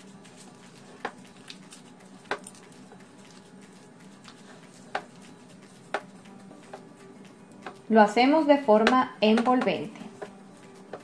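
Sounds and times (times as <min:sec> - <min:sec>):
dough squishing and patting: 0:00.0 - 0:11.0.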